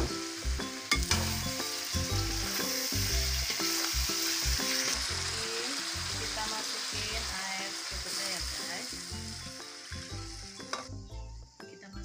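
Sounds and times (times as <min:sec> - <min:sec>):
chicken sizzling in hot oil: 0:00.0 - 0:11.2
spatula stir-frying in wok: 0:00.0 - 0:11.4
background music: 0:00.0 - 0:12.0.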